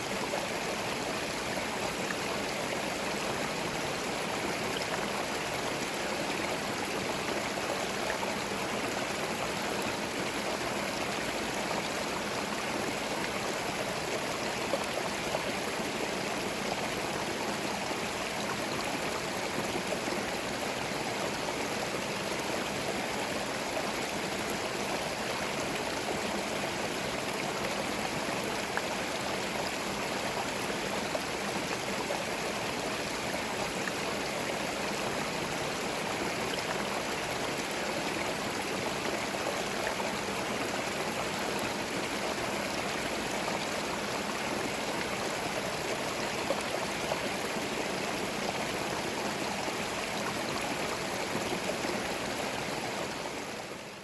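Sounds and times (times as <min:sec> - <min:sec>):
stream gurgling over stones: 0:00.0 - 0:54.0.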